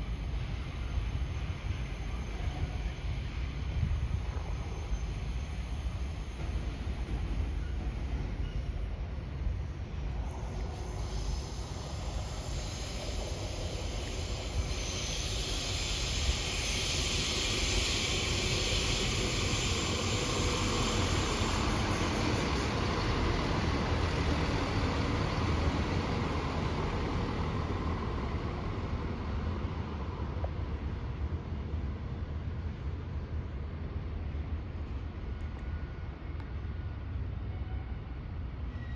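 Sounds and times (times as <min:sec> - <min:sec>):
train rumbling: 0:00.0 - 0:38.9
wheel and rail hiss: 0:00.0 - 0:38.9.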